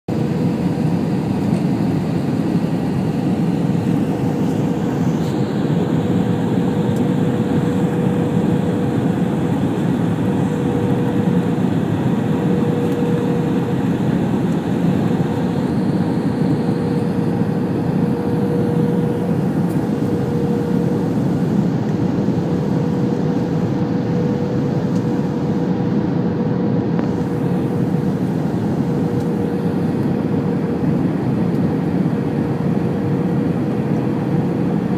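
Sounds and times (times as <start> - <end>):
airplane engine noise: 0.1 - 34.9
steady hum: 0.1 - 34.9.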